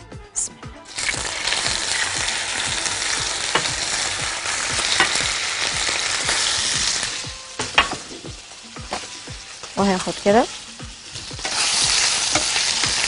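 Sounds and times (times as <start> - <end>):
oil sizzling in a frying pan: 0.8 - 13.0.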